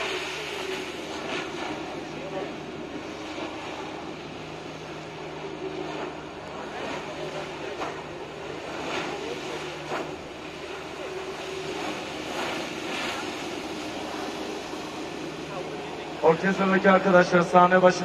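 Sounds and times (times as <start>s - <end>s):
jet ski engine running: 0.0s - 18.0s
water jets rushing: 0.0s - 18.0s.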